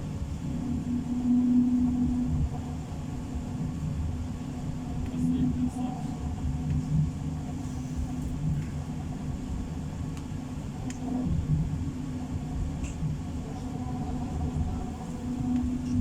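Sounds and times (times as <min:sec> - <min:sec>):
constant hum: 0:00.0 - 0:16.0
tram interior rumble: 0:00.0 - 0:16.0.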